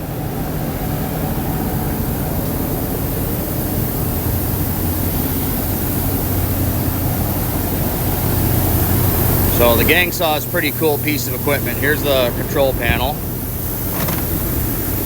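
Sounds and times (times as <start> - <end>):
sawmill machinery humming and hissing: 0.0 - 15.0.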